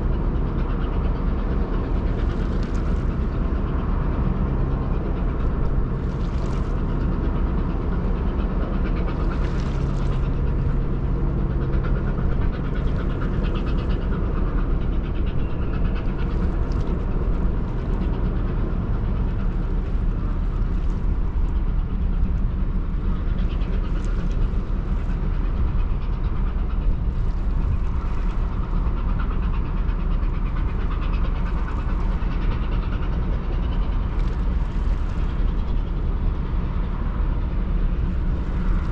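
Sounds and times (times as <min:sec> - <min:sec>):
ferry engine rumble: 0:00.0 - 0:38.9.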